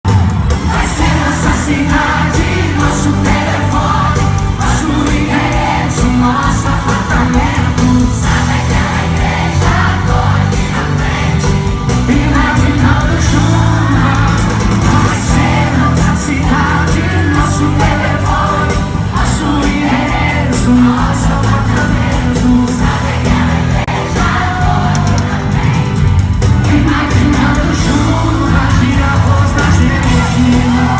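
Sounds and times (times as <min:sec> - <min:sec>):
band playing live pop music: 0:00.0 - 0:30.9
person singing: 0:00.5 - 0:30.9.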